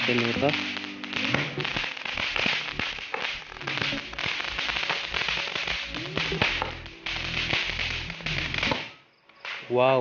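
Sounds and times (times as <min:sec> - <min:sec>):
fountain fireworks hissing: 0:00.0 - 0:09.0
small crackling pops: 0:00.0 - 0:09.8.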